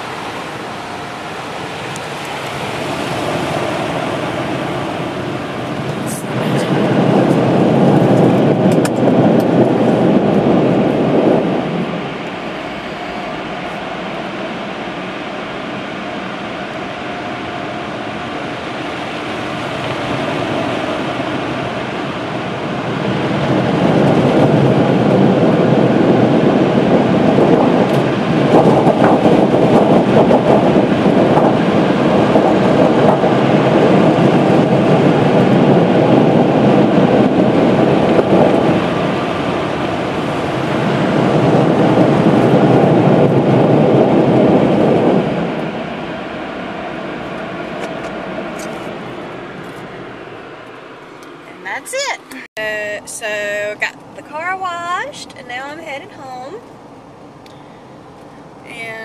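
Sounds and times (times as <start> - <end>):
car wash rushing rumble: 0.0 - 59.0.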